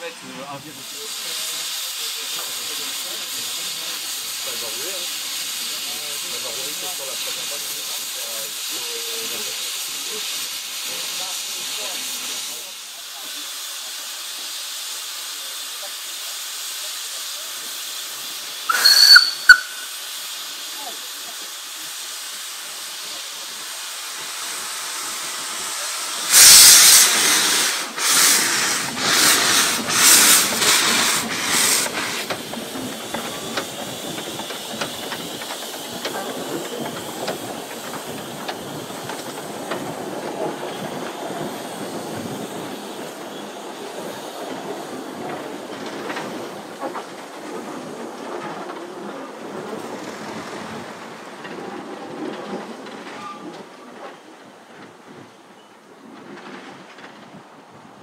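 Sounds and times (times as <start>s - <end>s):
loud bursts of steam: 0.0s - 55.8s
steam locomotive hissing: 0.0s - 58.0s
train rolling on rails: 0.0s - 58.0s.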